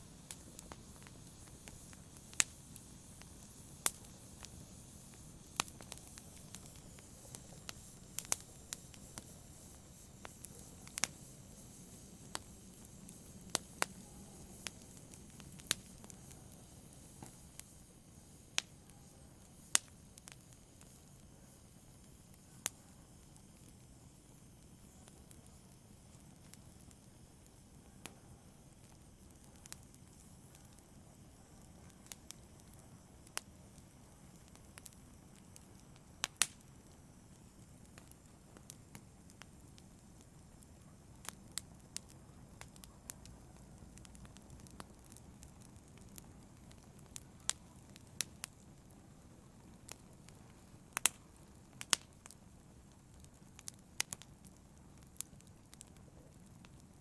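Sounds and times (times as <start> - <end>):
fire crackling and popping: 0.0 - 57.0
wood fire burning: 0.0 - 57.0.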